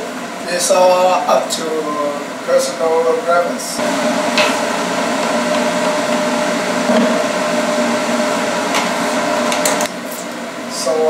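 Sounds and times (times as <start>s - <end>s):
motor or fan whirring hum: 0.0s - 11.0s.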